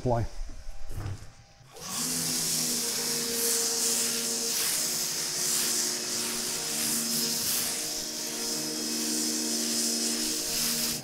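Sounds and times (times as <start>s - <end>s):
pressure washer foam hissing: 1.7s - 11.0s.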